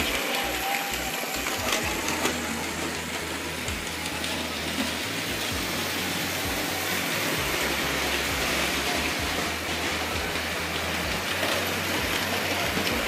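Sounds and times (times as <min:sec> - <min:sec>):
model train wheels rattling: 0:00.0 - 0:13.0.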